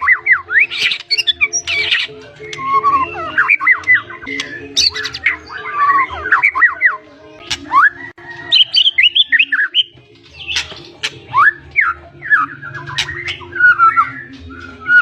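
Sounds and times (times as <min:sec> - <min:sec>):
bird singing whistled glides: 0:00.0 - 0:15.0.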